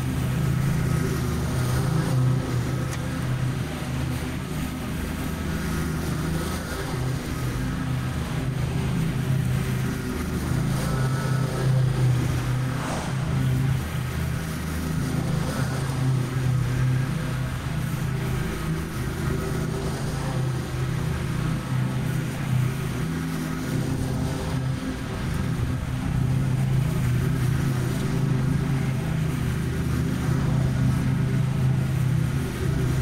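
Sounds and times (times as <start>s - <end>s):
ride mower engine droning: 0.0s - 33.0s.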